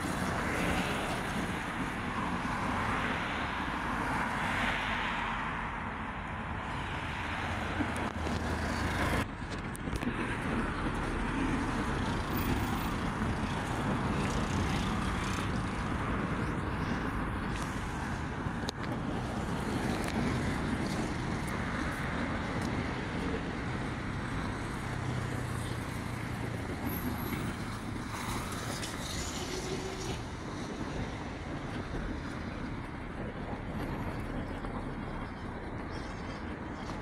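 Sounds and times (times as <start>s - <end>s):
cars and motorcycles passing: 0.0s - 37.0s.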